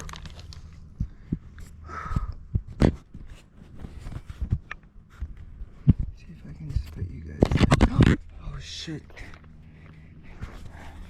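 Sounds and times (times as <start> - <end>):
scuffs and knocks of person moving: 0.3 - 11.0.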